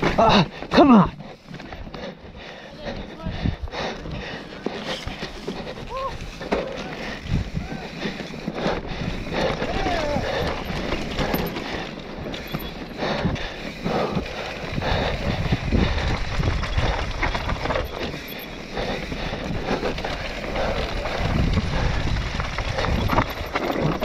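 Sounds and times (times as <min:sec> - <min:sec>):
bike rattling and knocking: 0:00.0 - 0:24.0
bike tyres rolling over dirt: 0:00.0 - 0:24.0
wind buffeting microphone: 0:01.7 - 0:04.4, 0:05.0 - 0:24.0.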